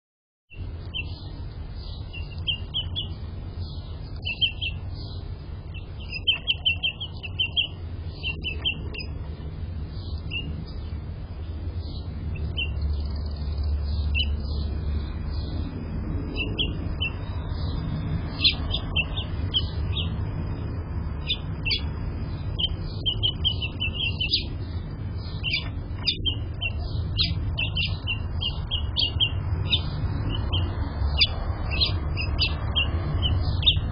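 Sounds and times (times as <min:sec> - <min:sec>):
finches chirping: 0:00.5 - 0:33.9
steady low rumble: 0:00.5 - 0:33.9.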